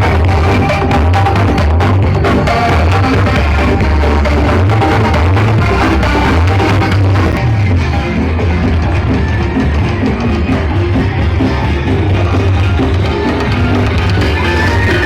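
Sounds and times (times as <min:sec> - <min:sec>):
loud music with heavy bass: 0:00.0 - 0:15.0.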